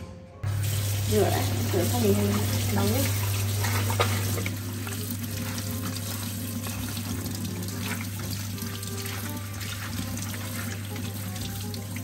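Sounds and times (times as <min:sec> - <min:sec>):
tap water running into colander: 0:00.4 - 0:12.0.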